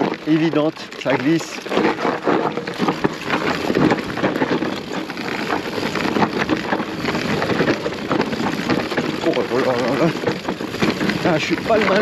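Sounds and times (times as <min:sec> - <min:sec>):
bike tyres crunching over rock: 0:00.0 - 0:12.0
stones clicking and crackling: 0:00.0 - 0:12.0.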